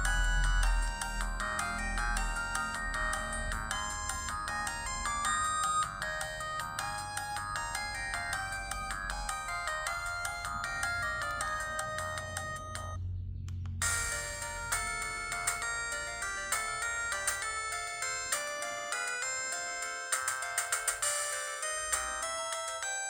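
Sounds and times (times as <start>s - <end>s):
mobile phone ringtone: 0.0s - 13.0s, 13.8s - 23.0s.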